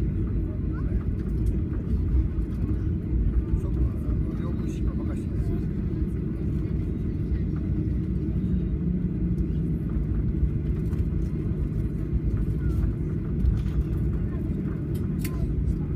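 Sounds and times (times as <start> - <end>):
airplane rolling on ground: 0.0 - 15.9.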